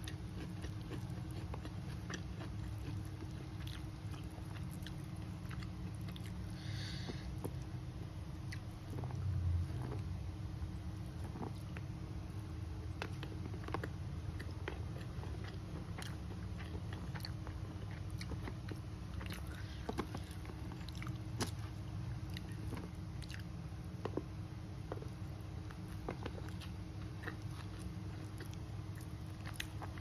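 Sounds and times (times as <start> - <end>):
mouth chewing food: 0.0 - 30.0.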